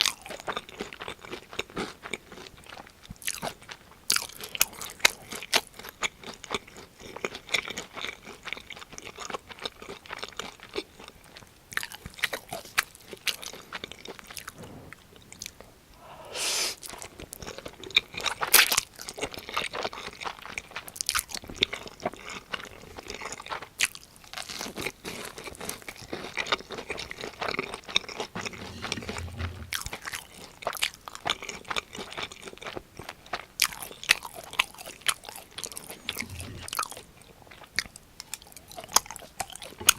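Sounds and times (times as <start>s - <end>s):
crunching and chewing food: 0.0s - 15.8s, 16.8s - 39.9s.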